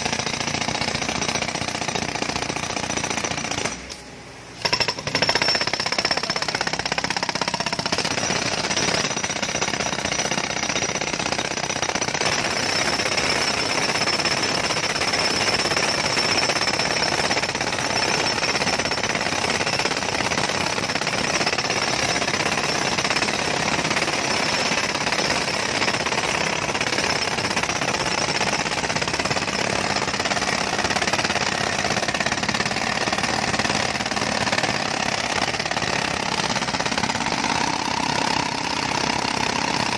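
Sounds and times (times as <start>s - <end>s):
jackhammer hammering road: 0.0s - 3.9s, 4.6s - 39.9s.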